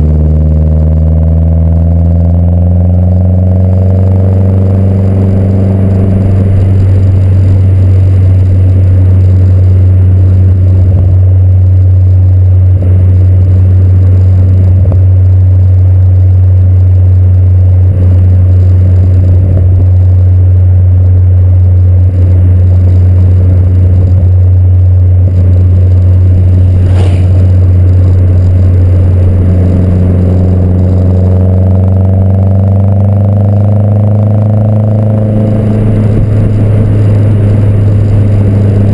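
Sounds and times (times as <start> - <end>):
car exhaust drone: 0.0 - 38.9.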